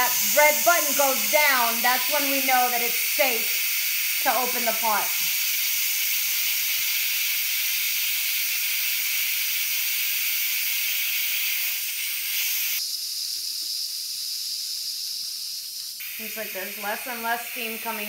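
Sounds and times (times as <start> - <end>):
pressure cooker steam hiss: 0.0 - 18.0.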